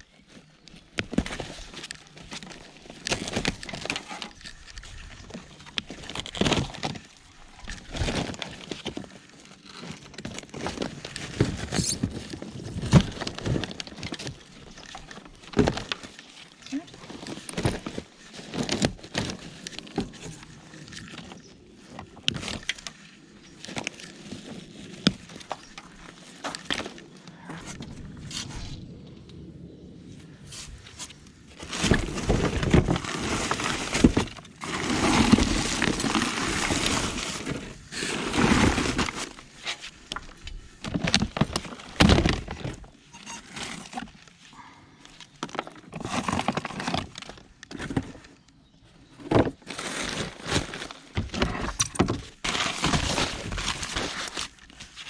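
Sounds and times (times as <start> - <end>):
rubble clattering and crunching: 0.0 - 55.0.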